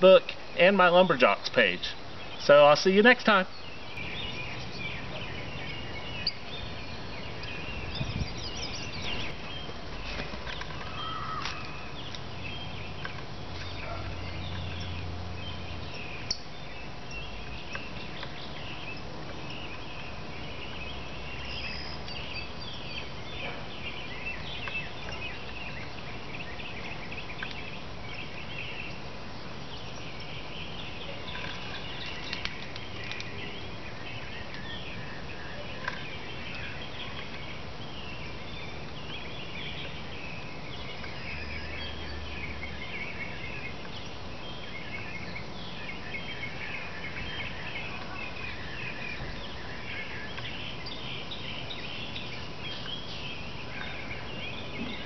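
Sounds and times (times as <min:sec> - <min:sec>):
small birds chirping and trilling: 0:00.0 - 0:55.0
steady background hiss: 0:00.0 - 0:55.0.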